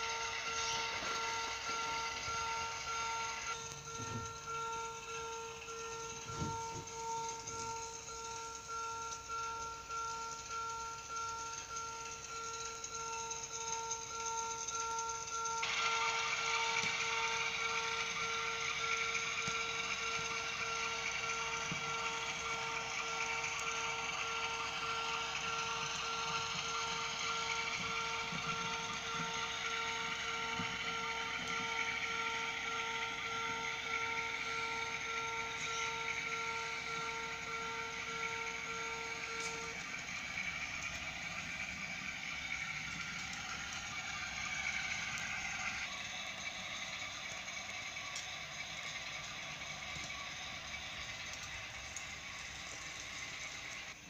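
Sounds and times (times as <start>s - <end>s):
electronic warning bell ringing: 0.0s - 54.0s
model train whirring and rattling: 0.0s - 54.0s.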